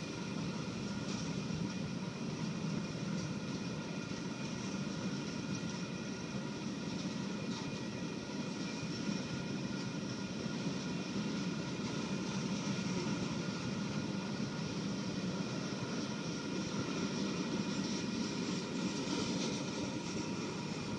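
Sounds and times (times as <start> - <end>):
faint ringing from wheels: 0.0 - 20.9
rumble of steel wheels on track: 0.0 - 20.9.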